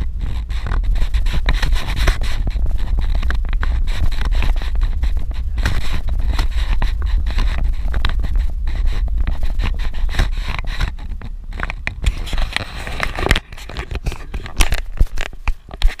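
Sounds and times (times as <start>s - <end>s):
gravel crackling and scraping: 0.0s - 16.0s
vehicle engine rumble: 0.0s - 16.0s.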